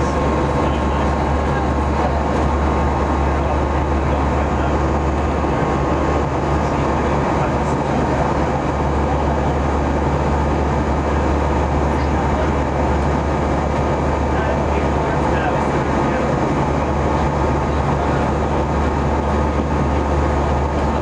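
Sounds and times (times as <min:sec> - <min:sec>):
jet engine cabin noise: 0:00.0 - 0:21.0.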